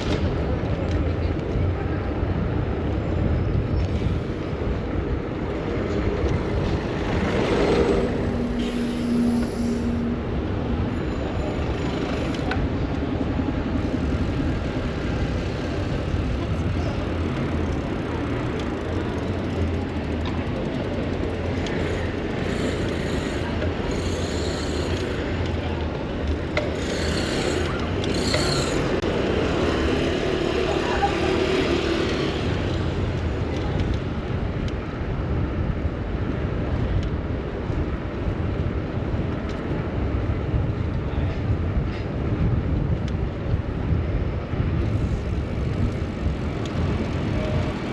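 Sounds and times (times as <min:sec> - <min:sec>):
city street traffic: 0:00.0 - 0:47.9
vehicles passing: 0:00.0 - 0:47.9.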